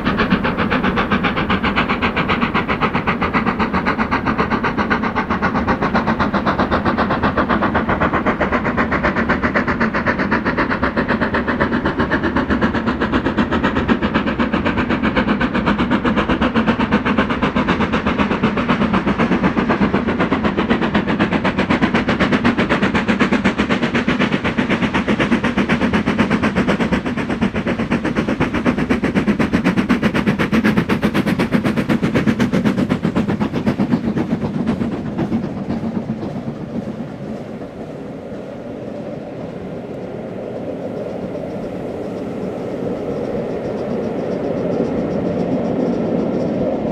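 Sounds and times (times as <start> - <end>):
steam locomotive exhaust beats: 0.0 - 46.9.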